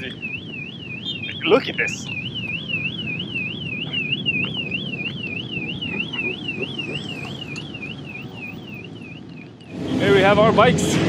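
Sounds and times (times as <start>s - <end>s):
car alarm warbling: 0.0s - 10.4s.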